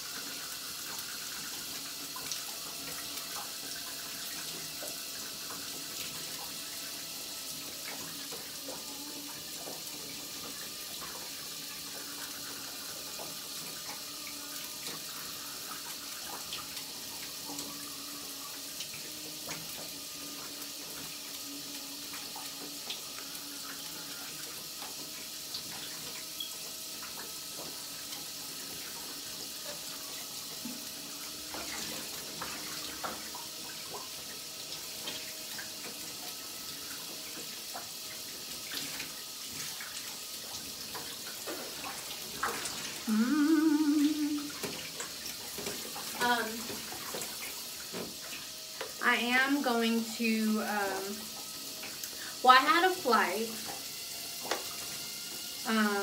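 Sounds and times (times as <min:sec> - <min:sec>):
electric toothbrush humming: 0:00.0 - 0:56.0
shower water spraying and splashing: 0:00.0 - 0:56.0.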